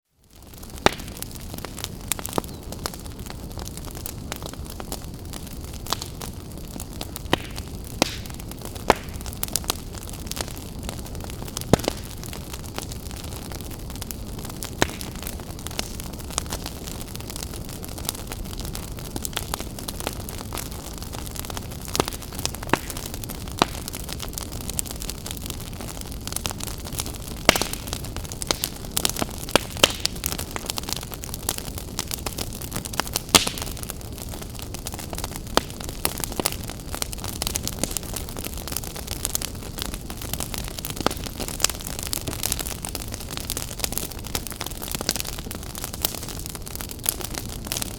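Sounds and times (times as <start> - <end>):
wood fire crackling and popping: 0.2 - 47.9.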